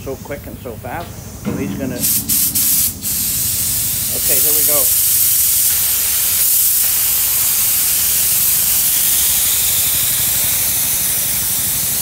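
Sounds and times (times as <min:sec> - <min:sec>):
spray gun hissing: 0:02.0 - 0:12.0.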